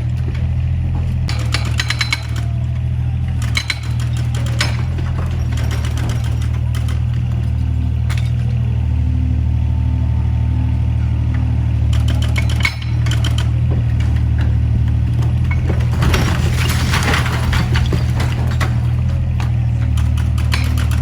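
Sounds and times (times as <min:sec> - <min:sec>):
diesel excavator engine running: 0:00.0 - 0:21.0
excavator clattering: 0:00.0 - 0:21.0.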